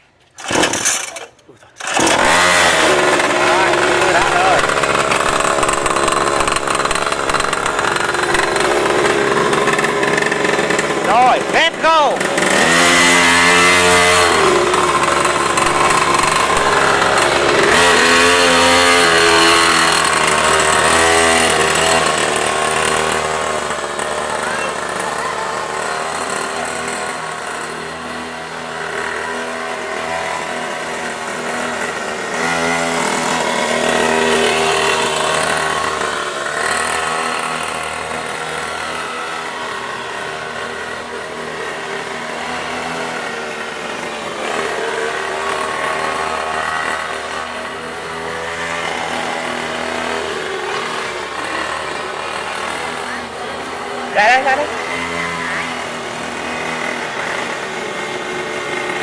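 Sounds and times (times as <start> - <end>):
pocket bike engine revving: 0.0 - 59.0.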